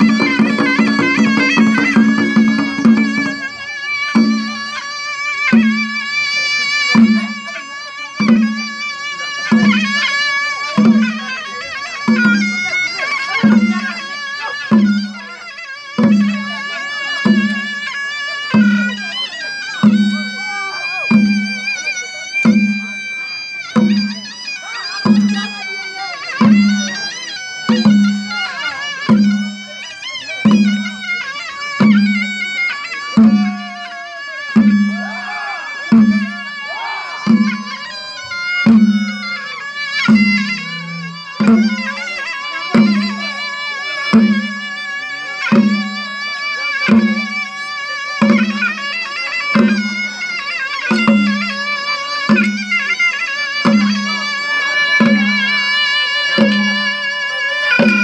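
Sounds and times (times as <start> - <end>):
drum beating steadily: 0.0 - 58.0
wind instrument melody: 0.0 - 58.0.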